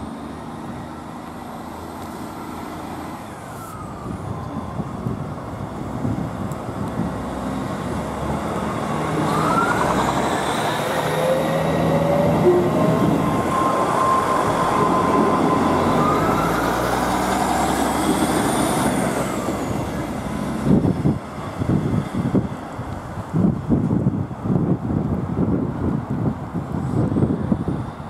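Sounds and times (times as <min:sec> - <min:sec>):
train engine and transmission whine: 0:00.0 - 0:28.0
wind buffeting microphone: 0:03.4 - 0:28.0.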